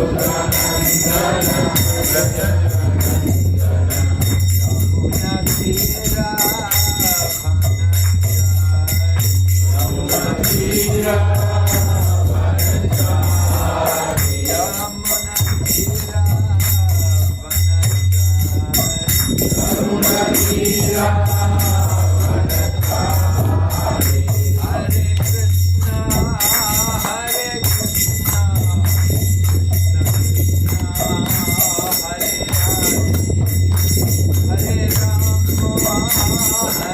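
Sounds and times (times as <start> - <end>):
group singing: 0.0 - 7.6, 9.7 - 17.3, 18.6 - 29.0, 30.8 - 33.3, 34.5 - 36.9
hand cymbals ringing: 0.0 - 36.9.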